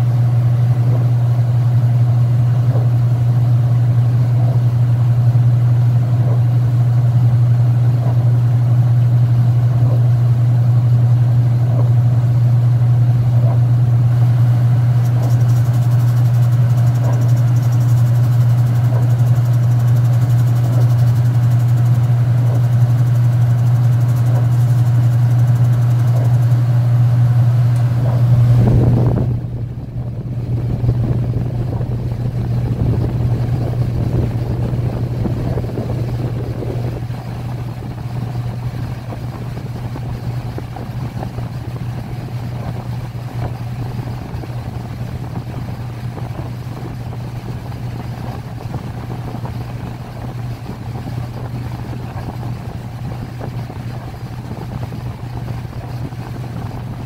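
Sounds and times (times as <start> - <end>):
washer spinning: 0.0 - 57.0.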